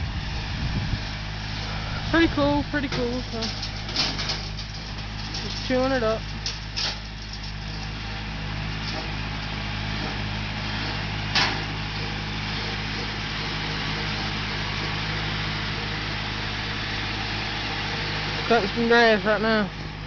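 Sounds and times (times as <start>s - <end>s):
tractor with rotary cutter running: 0.0s - 20.0s.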